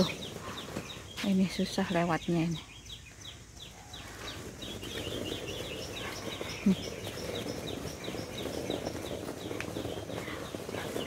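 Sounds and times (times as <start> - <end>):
bird chirping: 0.0 - 11.0
rough background noise: 0.0 - 11.0.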